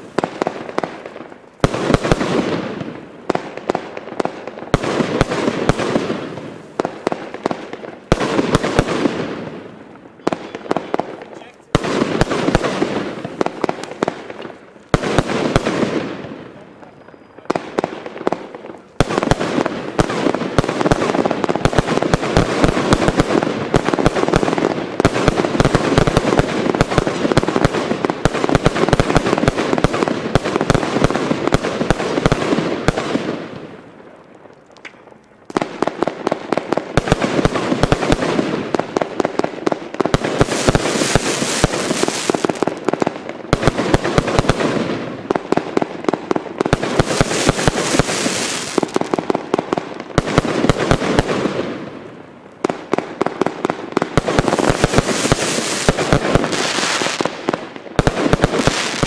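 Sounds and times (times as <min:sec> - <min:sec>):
fireworks firing rapid volleys: 0:00.0 - 0:59.0.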